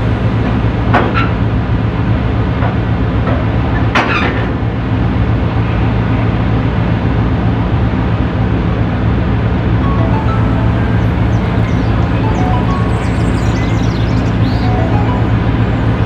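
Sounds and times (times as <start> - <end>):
boat diesel engine drone: 0.0 - 16.0.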